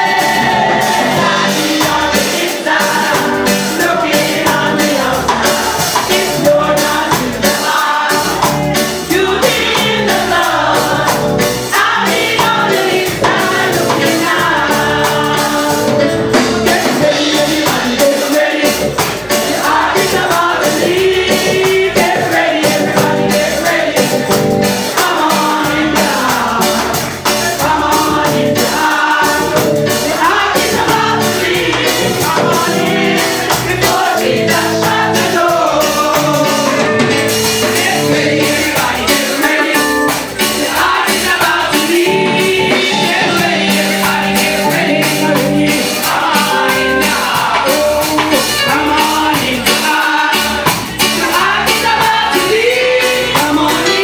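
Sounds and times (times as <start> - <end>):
choir singing a gospel song: 0.0 - 54.0
instrumental accompaniment with beat: 0.0 - 54.0.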